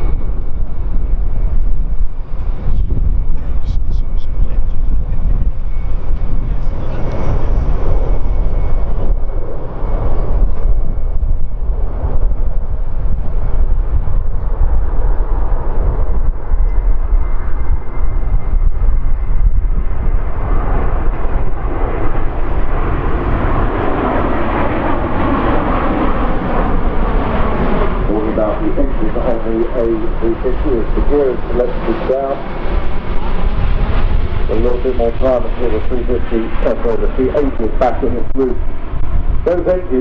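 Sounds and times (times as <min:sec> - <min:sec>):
jet engines rumbling: 0:00.0 - 0:40.0.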